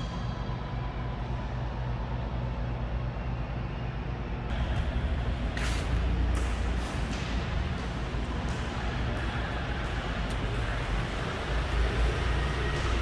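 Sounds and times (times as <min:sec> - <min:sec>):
low industrial rumble: 0:00.0 - 0:13.0.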